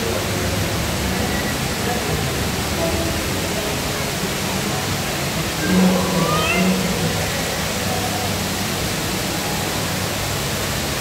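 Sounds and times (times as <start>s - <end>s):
indoor waterfall rushing and splashing: 0.0s - 11.0s.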